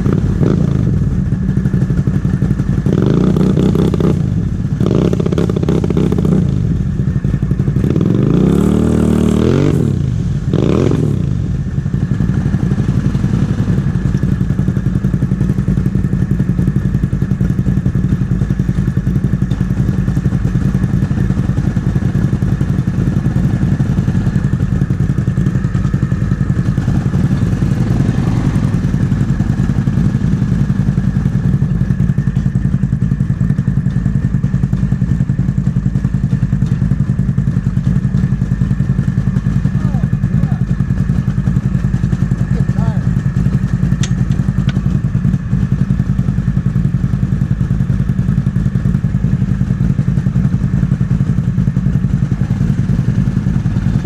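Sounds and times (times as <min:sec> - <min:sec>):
atv engine idling: 0:00.0 - 0:54.0
engine rev: 0:00.0 - 0:54.0.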